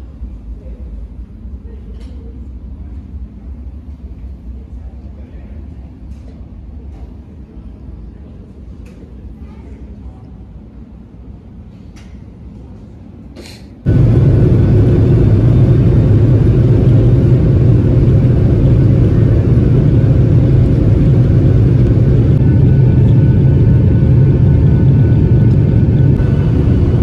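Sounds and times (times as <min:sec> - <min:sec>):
jet engines and runway rumble: 0:00.0 - 0:27.0
quiet terminal ambience: 0:00.0 - 0:27.0.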